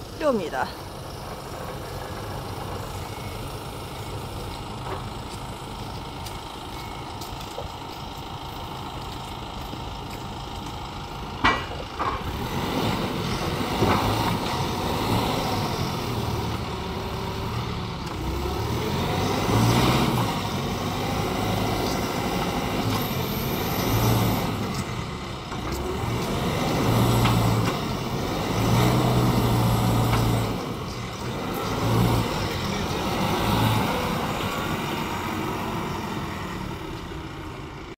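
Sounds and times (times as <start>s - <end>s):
forklift diesel engine revving: 0.0s - 37.9s.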